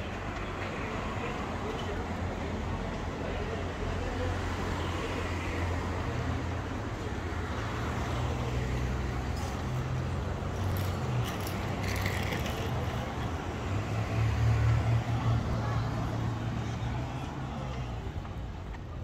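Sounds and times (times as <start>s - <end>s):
rumble of road traffic: 0.0s - 19.0s.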